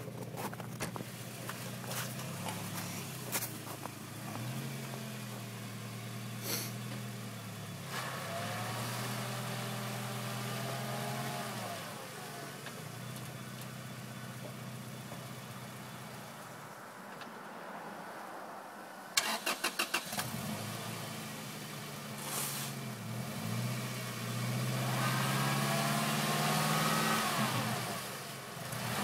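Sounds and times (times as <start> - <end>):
car engine revving under load: 0.0 - 16.3, 19.2 - 29.0.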